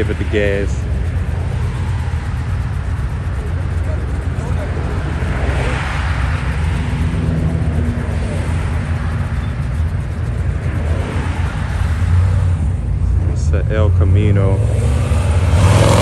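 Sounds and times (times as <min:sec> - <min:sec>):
car exhaust rumbling at low revs: 0:00.0 - 0:16.0.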